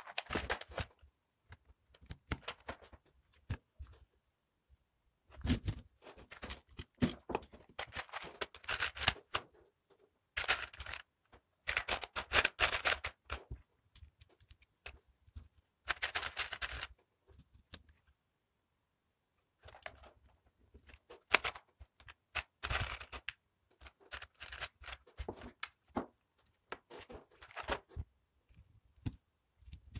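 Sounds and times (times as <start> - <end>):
plastic parts clicking and rattling: 0.0 - 4.1, 5.3 - 18.2, 19.6 - 29.9.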